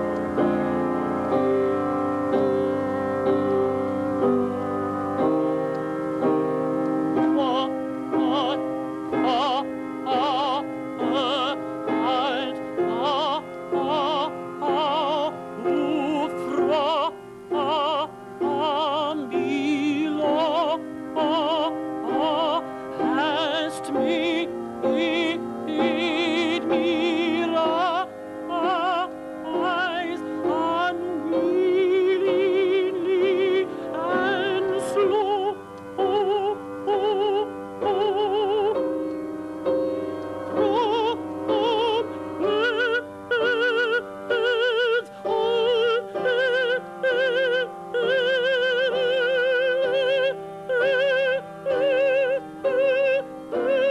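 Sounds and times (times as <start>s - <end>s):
male opera singer singing: 7.2s - 38.9s, 40.4s - 53.9s.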